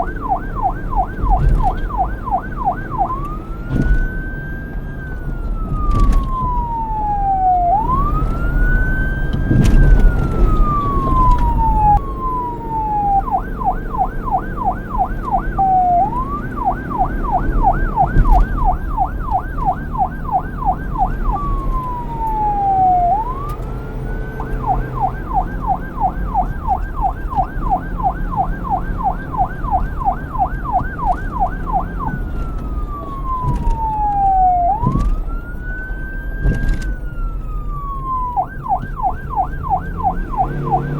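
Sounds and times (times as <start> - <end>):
police siren wailing and yelping: 0.0 - 40.9.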